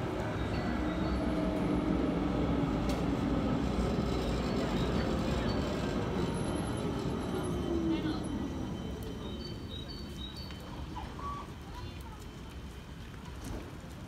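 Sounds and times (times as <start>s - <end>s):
tram wheels rumbling on track: 0.0s - 14.0s.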